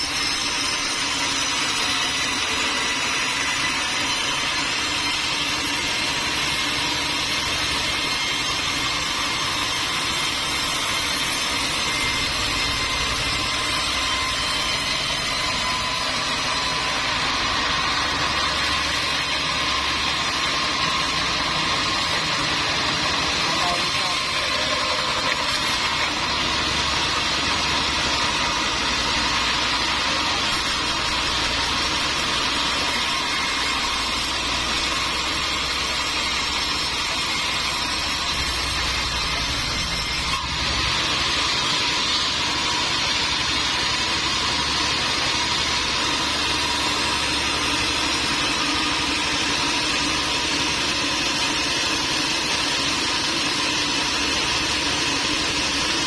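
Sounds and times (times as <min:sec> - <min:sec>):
sawmill engine hum: 0:00.0 - 0:56.0.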